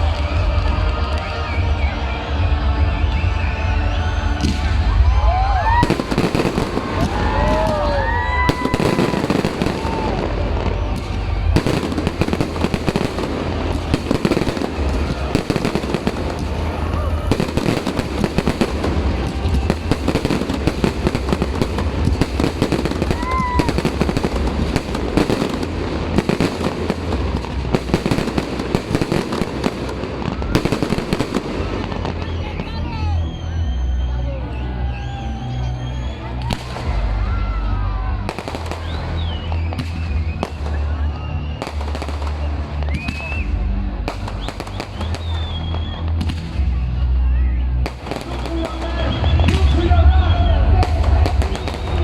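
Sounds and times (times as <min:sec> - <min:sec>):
low fireworks booms: 0:00.0 - 0:32.8, 0:36.0 - 0:47.1, 0:47.7 - 0:52.0
fireworks bangs and crackles: 0:00.0 - 0:52.0.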